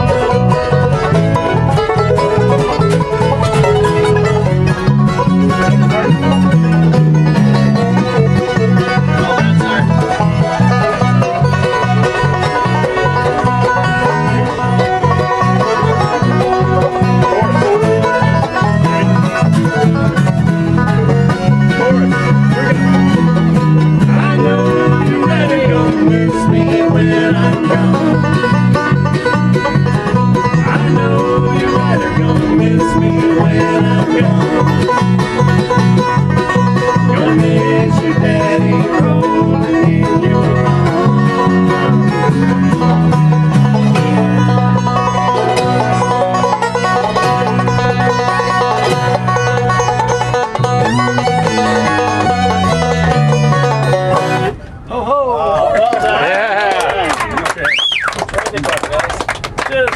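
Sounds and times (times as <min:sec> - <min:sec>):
banjo picking: 0:00.0 - 0:54.8
bluegrass band playing: 0:00.0 - 0:54.9, 0:55.9 - 0:59.9.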